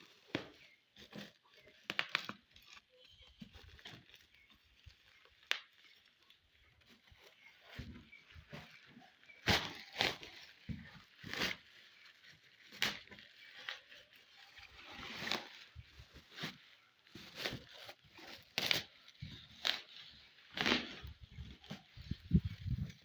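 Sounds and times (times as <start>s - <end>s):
packaging rustling and tearing: 0.0s - 23.0s.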